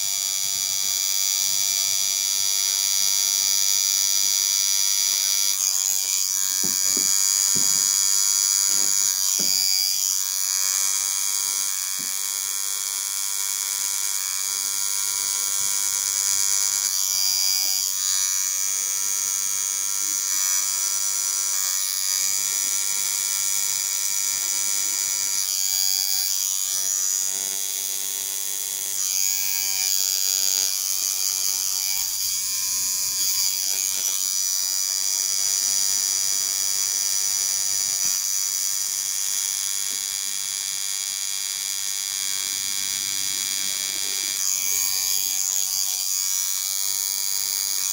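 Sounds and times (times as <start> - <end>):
tattoo pen buzzing: 0.0 - 47.9.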